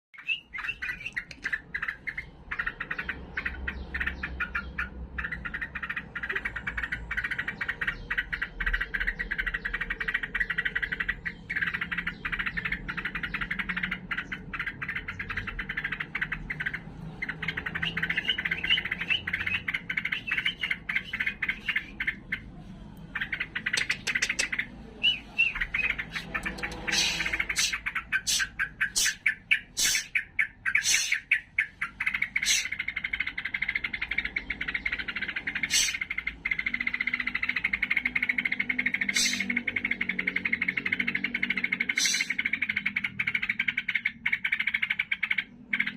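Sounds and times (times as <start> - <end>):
bird chattering and calling: 0.2 - 45.9.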